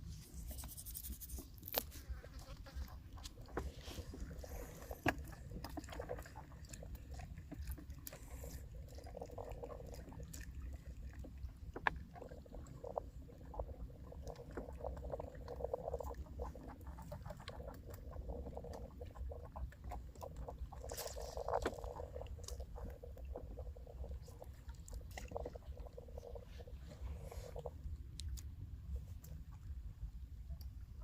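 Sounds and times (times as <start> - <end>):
water lapping against boat hull: 1.3 - 31.0.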